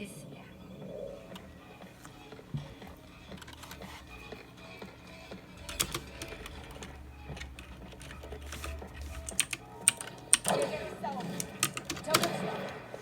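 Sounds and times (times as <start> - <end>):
keyboard keys clicking: 1.3 - 12.8.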